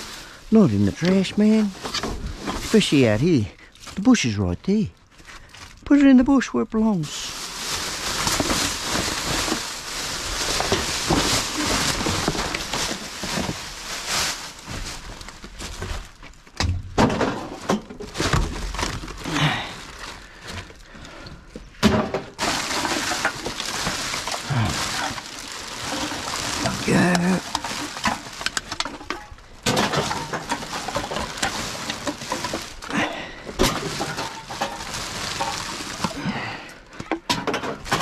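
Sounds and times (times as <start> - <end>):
plastic bin bags rustling: 0.0 - 38.0.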